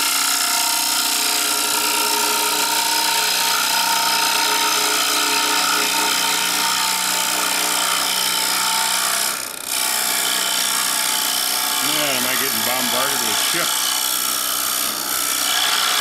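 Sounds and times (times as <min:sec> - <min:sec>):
lathe humming: 0:00.1 - 0:15.4.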